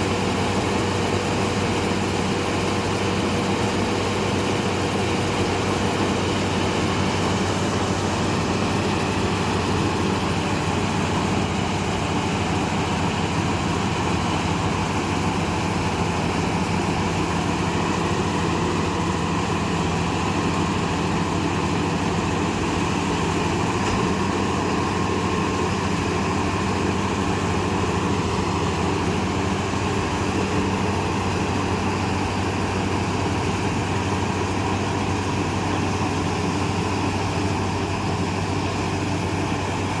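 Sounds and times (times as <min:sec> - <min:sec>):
combine harvester engine drone: 0:00.0 - 0:40.0.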